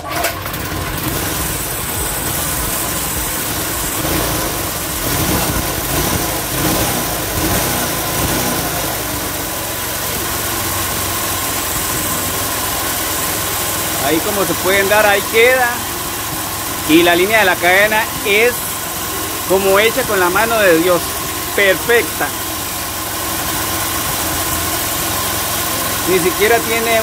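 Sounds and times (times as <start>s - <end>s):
small motorbike engine revving: 0.0s - 27.0s.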